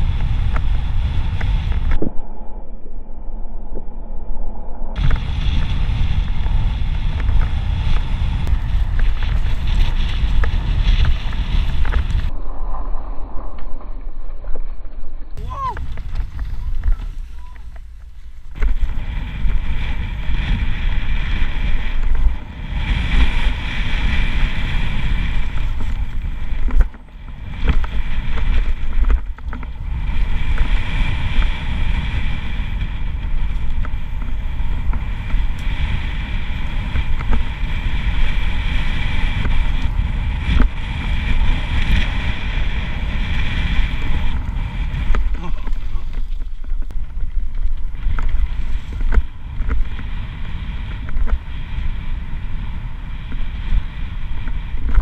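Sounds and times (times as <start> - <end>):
bike rattling over rough ground: 0.0 - 2.0, 5.0 - 12.3, 14.4 - 55.0
wind buffeting microphone: 0.0 - 55.0
tyre rumble: 5.0 - 55.0.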